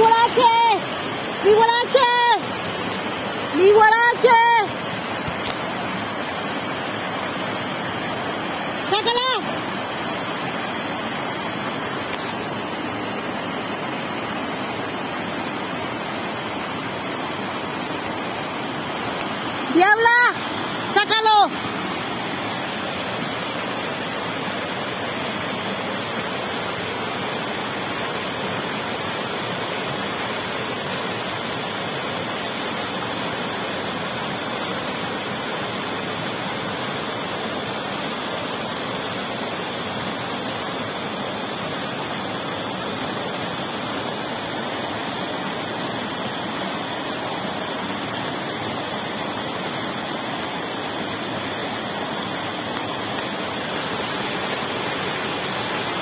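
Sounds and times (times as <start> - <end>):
river water rushing over rapids: 0.0 - 56.0.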